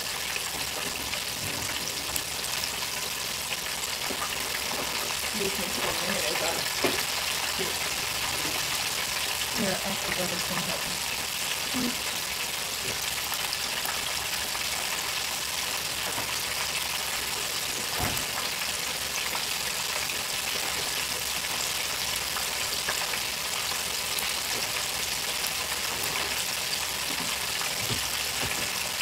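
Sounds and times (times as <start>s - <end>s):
oil sizzling in deep fryer: 0.0s - 29.0s.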